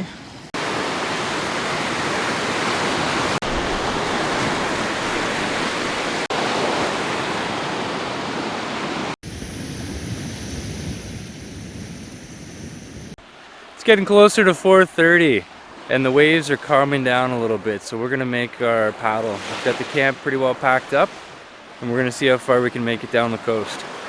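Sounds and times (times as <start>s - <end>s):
waves breaking on shore: 0.5s - 24.0s.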